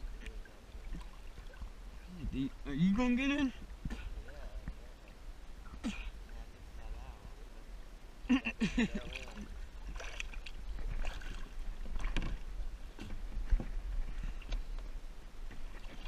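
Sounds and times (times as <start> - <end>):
water splashing against kayak: 0.0 - 7.6, 8.9 - 16.0.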